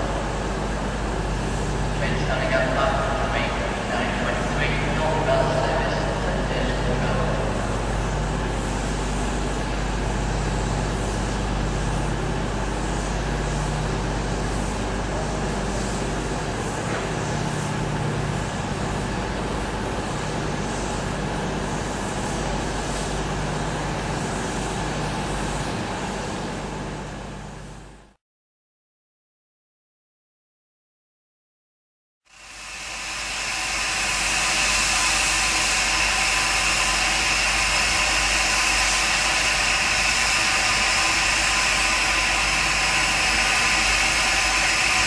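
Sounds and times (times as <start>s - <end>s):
steam hissing: 0.0s - 26.2s, 32.3s - 45.0s.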